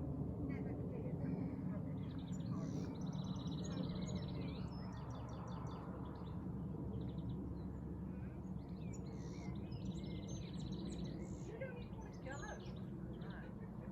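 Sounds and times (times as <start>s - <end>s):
turboprop aircraft drone: 0.0s - 13.9s.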